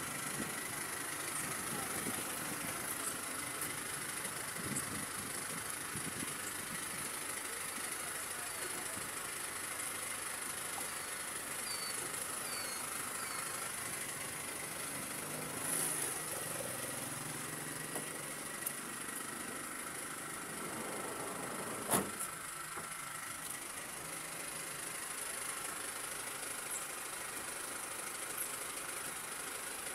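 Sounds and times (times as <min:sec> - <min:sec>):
vehicle engine idling: 0:00.0 - 0:29.9.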